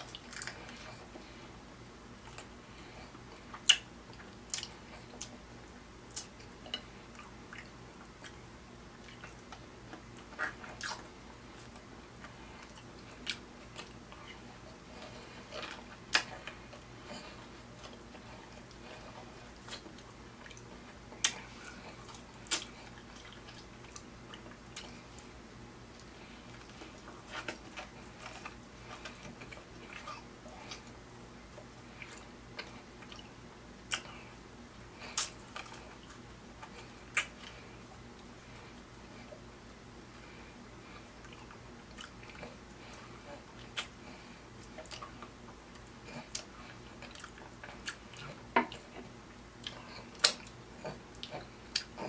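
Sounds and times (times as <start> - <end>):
chewing with wet smacks: 0.0 - 1.4, 2.2 - 52.0.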